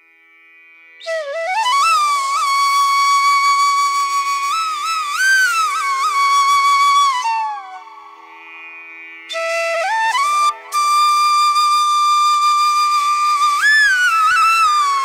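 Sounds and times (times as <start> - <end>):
solo flute melody: 1.0 - 8.6, 9.3 - 15.0.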